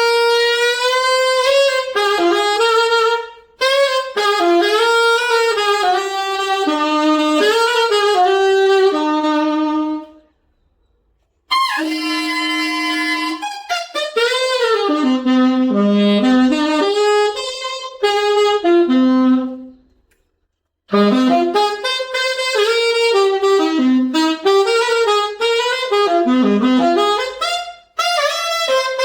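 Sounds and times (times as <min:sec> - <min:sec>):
solo saxophone melody: 0:00.0 - 0:10.4, 0:11.2 - 0:20.0, 0:20.9 - 0:29.0.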